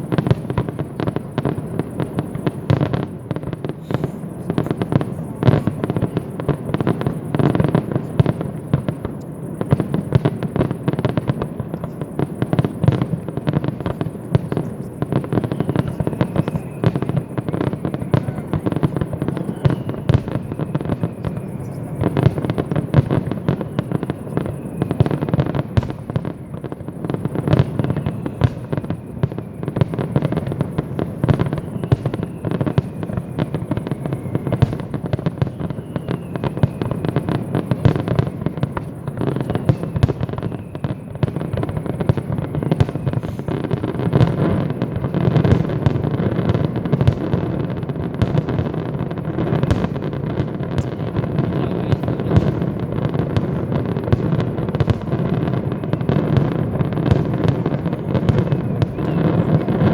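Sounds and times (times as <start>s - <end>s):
fireworks bangs and crackles: 0.0s - 59.9s
fireworks falling whistles: 0.0s - 59.9s.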